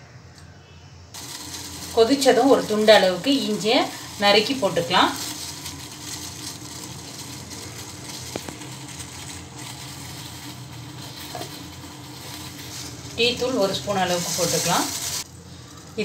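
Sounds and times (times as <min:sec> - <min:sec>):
water boiling in a pot: 0:01.2 - 0:16.0.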